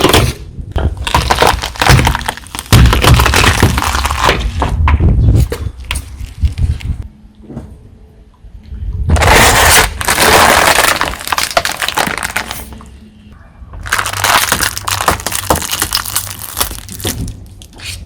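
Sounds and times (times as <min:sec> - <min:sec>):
tyre crushing brittle objects: 0:00.0 - 0:06.9, 0:09.1 - 0:12.8, 0:13.8 - 0:18.0.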